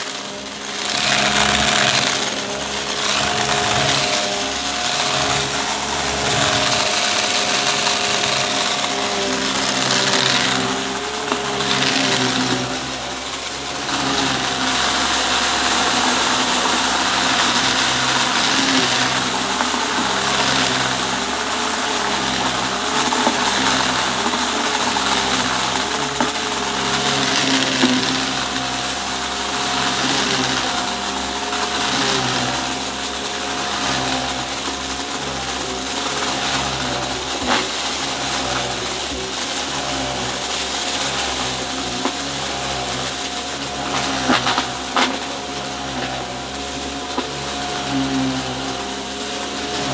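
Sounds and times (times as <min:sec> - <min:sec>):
debris clicking in vacuum: 0:00.0 - 0:49.9
vacuum cleaner running: 0:00.0 - 0:49.9.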